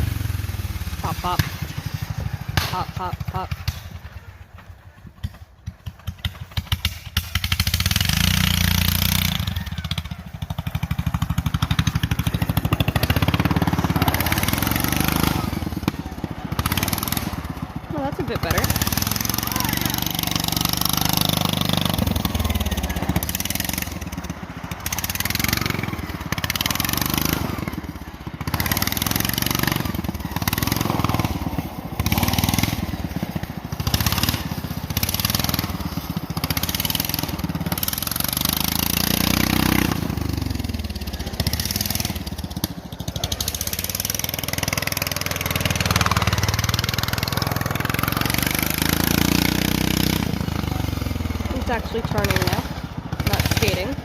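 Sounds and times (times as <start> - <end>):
tractor engine revving: 0.0 - 54.0.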